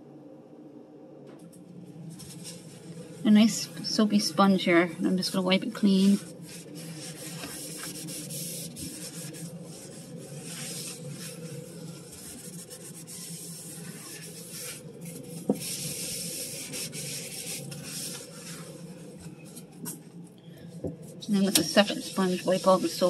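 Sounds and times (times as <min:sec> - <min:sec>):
sponge rubbing a surface: 0:02.0 - 0:19.8, 0:21.0 - 0:23.0.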